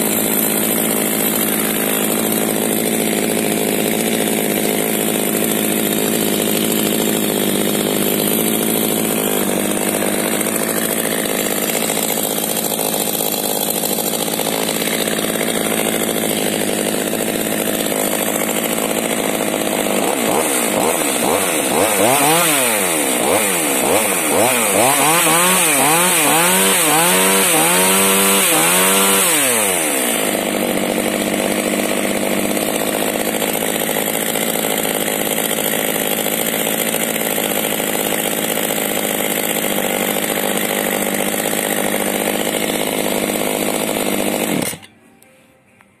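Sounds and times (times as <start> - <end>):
chainsaw revving and idling: 0.0 - 45.0.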